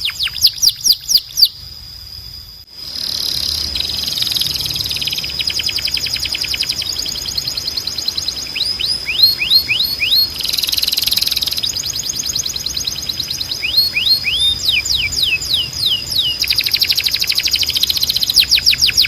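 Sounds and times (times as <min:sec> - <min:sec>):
canary singing: 0:00.0 - 0:01.6, 0:03.0 - 0:19.0.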